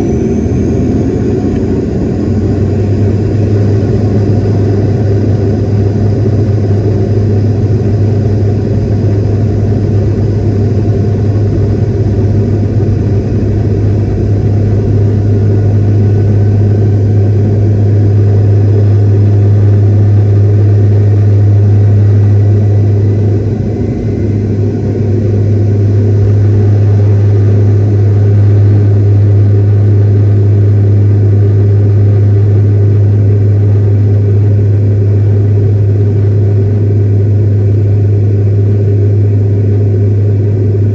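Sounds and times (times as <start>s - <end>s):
jet cabin engine rumble: 0.0s - 40.9s
low hum: 0.0s - 40.9s.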